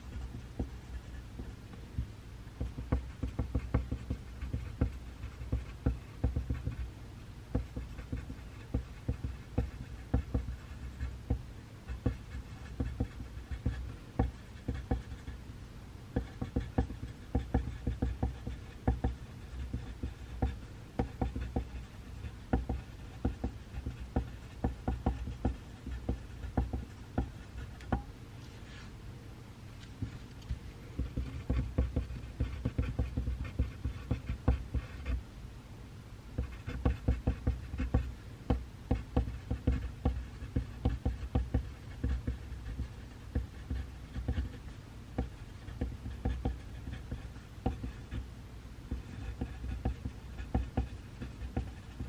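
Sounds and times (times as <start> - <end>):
pencil writing on paper: 0.0 - 6.9, 7.5 - 15.4, 16.1 - 28.1, 30.9 - 35.2, 36.4 - 48.3, 48.9 - 52.0.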